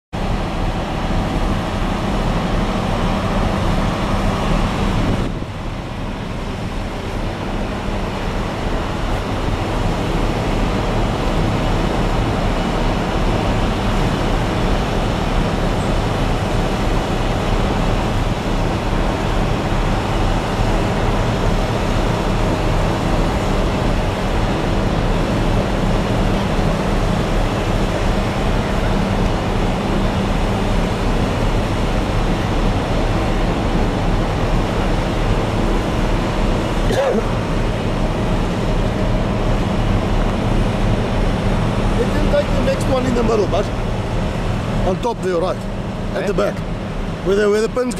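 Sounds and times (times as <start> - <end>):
diesel machinery engine drone: 0.2 - 47.9.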